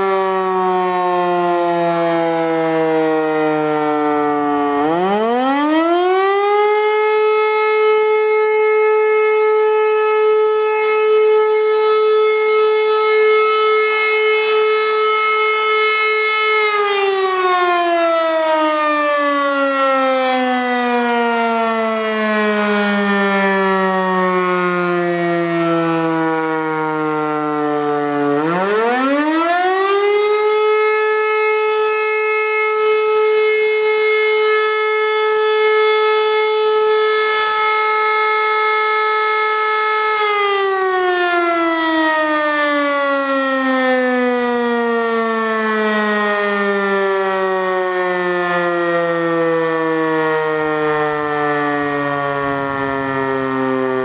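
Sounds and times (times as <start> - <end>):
electromechanical siren wail: 0.0 - 54.0.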